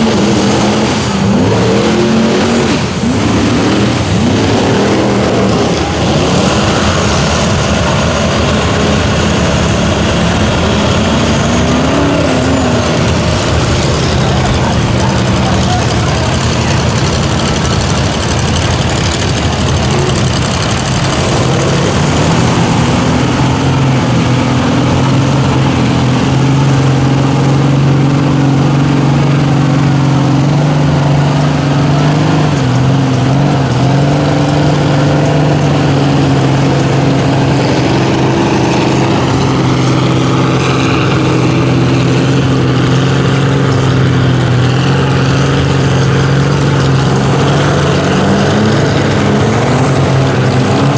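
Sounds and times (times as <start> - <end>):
mud truck engines running loudly: 0.0 - 50.9.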